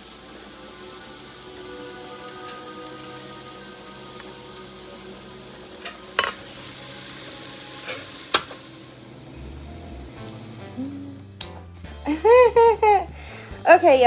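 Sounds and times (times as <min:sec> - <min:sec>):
food sizzling in a pan: 0:00.0 - 0:13.7.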